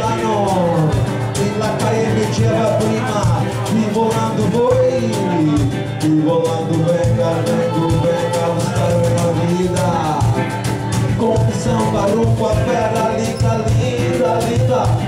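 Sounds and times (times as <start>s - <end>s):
drum kit beat on cymbals: 0.0s - 15.0s
guitar: 0.0s - 15.0s
live band playing: 0.0s - 15.0s
low bass notes: 0.0s - 15.0s
sliding melody line: 0.0s - 15.0s.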